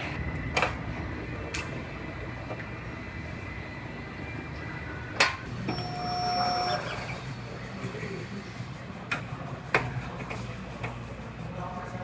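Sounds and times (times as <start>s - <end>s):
body shop background noise: 0.0s - 12.0s.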